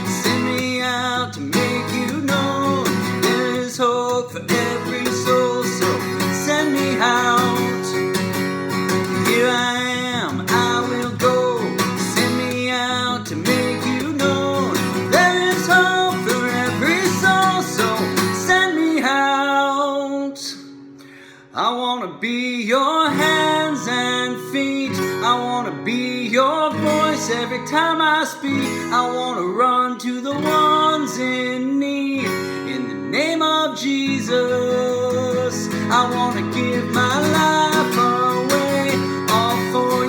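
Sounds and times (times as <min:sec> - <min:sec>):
strummed acoustic guitar: 0:00.0 - 0:40.0.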